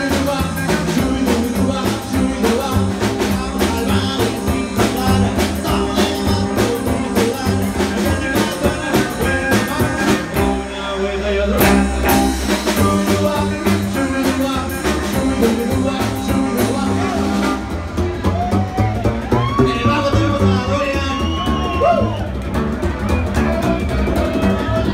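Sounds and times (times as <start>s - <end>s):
person singing: 0.0s - 22.2s
rockabilly band playing live: 0.0s - 24.9s
upright bass notes: 0.0s - 24.9s.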